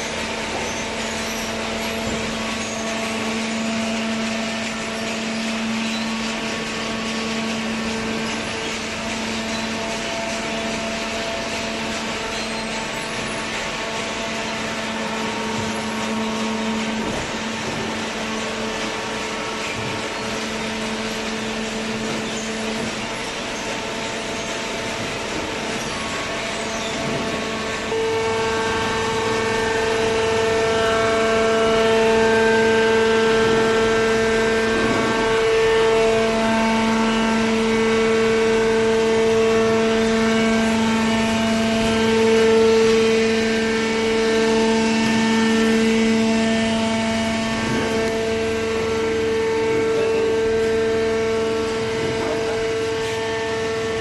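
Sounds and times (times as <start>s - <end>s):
hydraulic pump motor whining: 0.0s - 54.0s.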